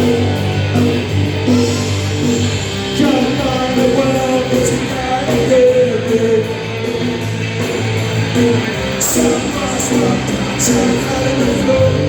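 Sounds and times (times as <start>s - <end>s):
punk band playing loud: 0.0s - 12.0s.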